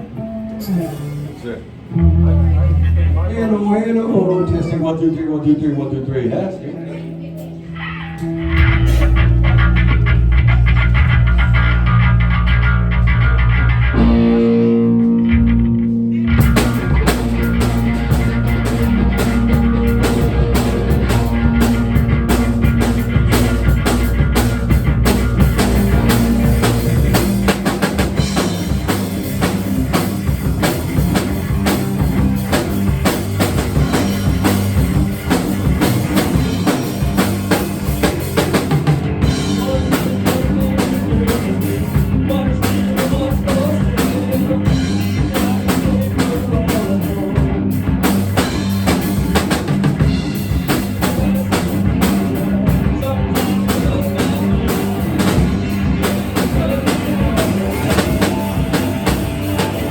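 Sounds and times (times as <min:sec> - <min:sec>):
electric guitar: 0:00.0 - 0:03.4, 0:06.8 - 0:59.9
rock music: 0:00.0 - 0:04.8, 0:06.9 - 0:59.9
bass guitar: 0:00.0 - 0:04.9, 0:06.8 - 0:59.9
drum kit beat: 0:08.2 - 0:59.9.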